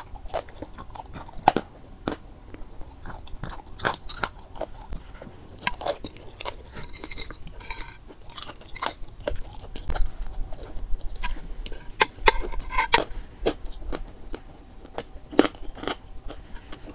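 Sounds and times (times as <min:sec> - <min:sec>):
chalk crunching in mouth: 0:00.0 - 0:16.9.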